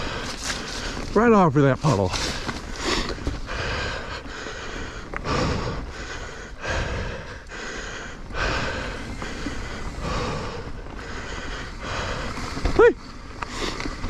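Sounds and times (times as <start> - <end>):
heavy breathing: 0.0 - 1.2, 2.0 - 12.8, 13.4 - 14.0
tyres rumbling on dirt trail: 0.0 - 14.0.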